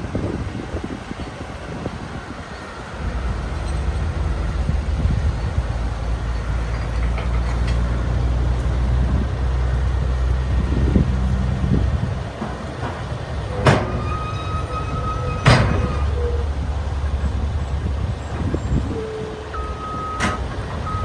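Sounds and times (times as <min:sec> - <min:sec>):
heavy machine engine running: 0:00.1 - 0:21.0.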